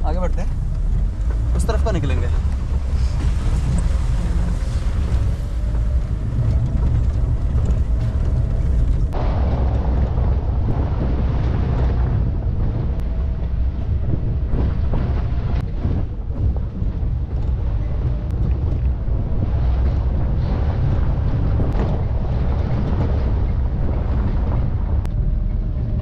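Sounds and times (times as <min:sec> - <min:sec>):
vehicle engine and tyre rumble: 0:00.0 - 0:26.0
wind buffeting microphone: 0:00.0 - 0:26.0.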